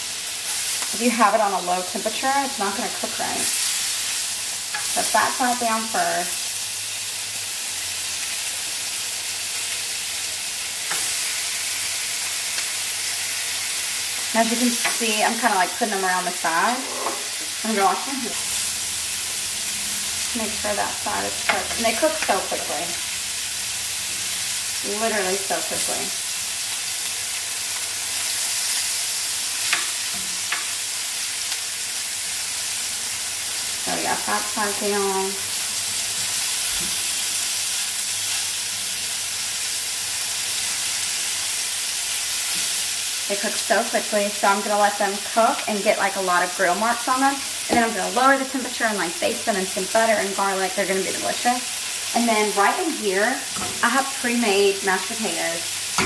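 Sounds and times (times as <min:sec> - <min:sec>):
meat sizzling in a pan: 0:00.0 - 0:56.0.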